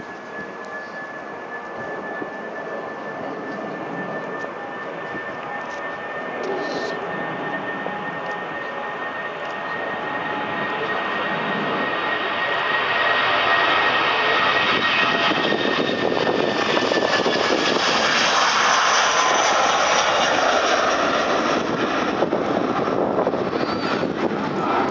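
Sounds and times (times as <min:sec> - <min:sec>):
high jet engine whine: 0:00.0 - 0:24.9
jet engine roar at takeoff: 0:00.0 - 0:24.9.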